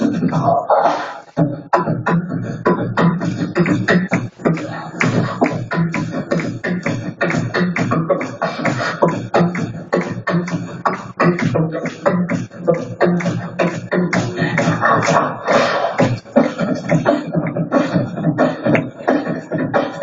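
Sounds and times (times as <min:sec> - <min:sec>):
amplified beatboxing: 0:00.0 - 0:20.0.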